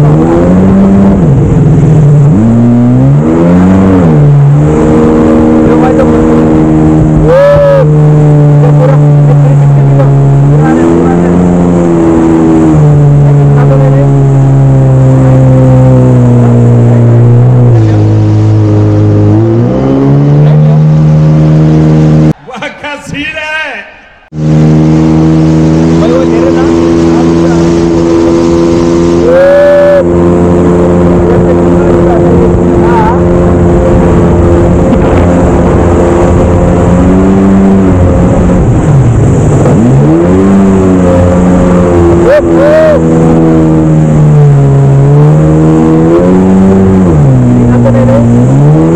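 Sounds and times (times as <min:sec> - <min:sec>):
jet ski engine running hard: 0:00.0 - 0:22.4, 0:24.3 - 0:48.9.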